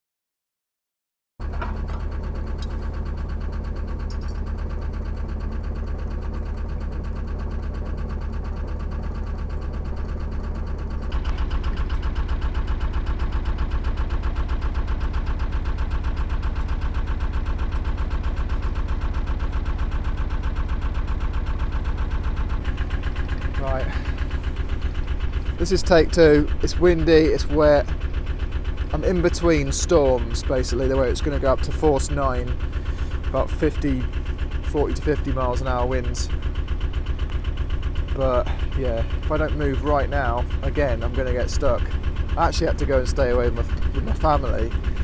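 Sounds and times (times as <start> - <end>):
diesel engine running: 1.4 - 45.0.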